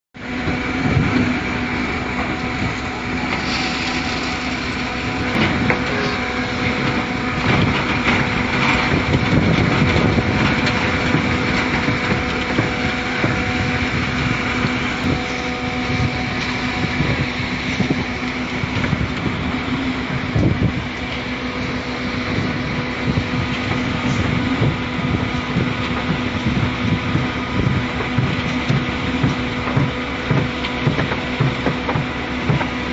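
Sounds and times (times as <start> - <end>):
concrete mixer pump running: 0.2 - 32.9
machine rattling and clanking: 3.2 - 20.9, 21.6 - 32.9.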